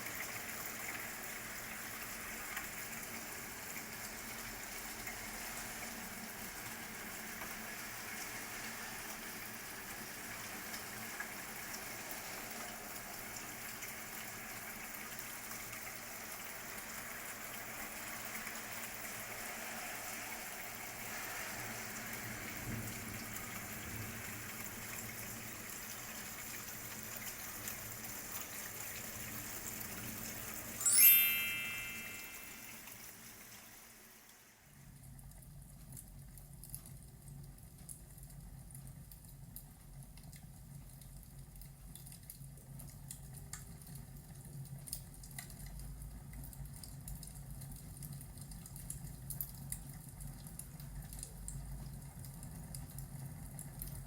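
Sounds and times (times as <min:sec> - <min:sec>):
steady rain: 0:00.0 - 0:30.6, 0:35.0 - 0:54.0.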